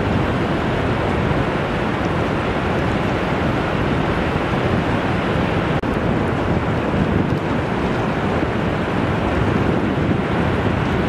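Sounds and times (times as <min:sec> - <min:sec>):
surf washing onto beach: 0:00.0 - 0:11.0
wind rumble on microphone: 0:00.0 - 0:11.0.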